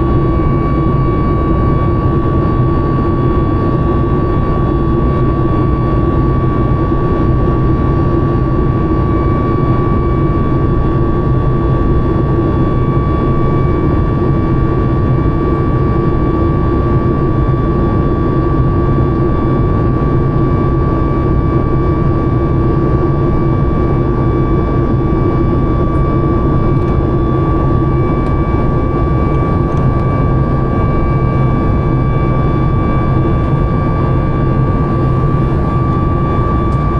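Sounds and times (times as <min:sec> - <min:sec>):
jet engines rumbling in cabin: 0:00.0 - 0:36.9
steady high engine whine: 0:00.0 - 0:36.9.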